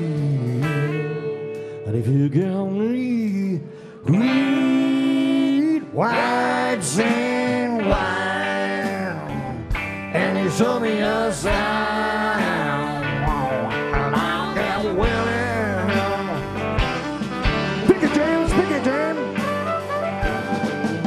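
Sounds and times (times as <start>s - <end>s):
man singing long notes: 0.0s - 16.9s, 17.8s - 19.4s
electric guitar: 0.0s - 21.0s.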